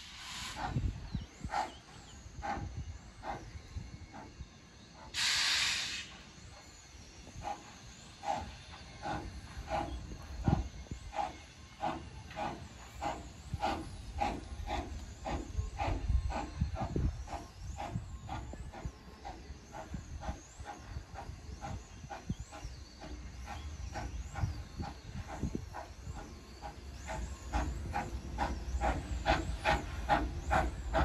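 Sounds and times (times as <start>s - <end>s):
loud hiss of steam: 0.0s - 31.0s
steam locomotive chuffing: 0.0s - 31.0s.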